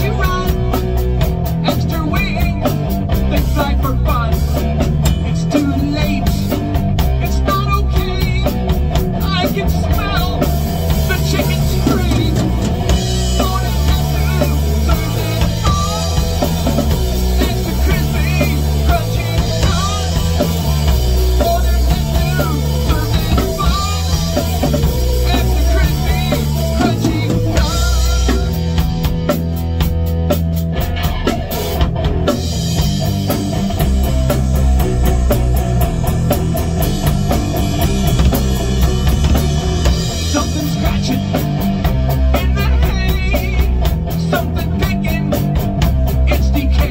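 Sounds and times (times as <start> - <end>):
rock band playing: 0.0 - 46.9.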